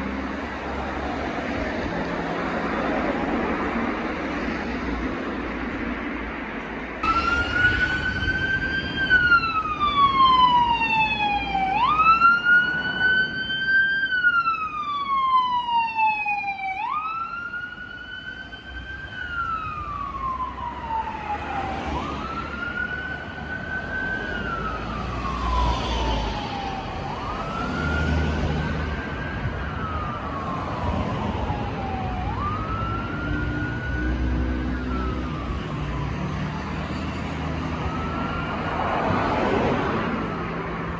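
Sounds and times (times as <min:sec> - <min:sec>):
fire engine siren wailing: 0:07.0 - 0:40.9.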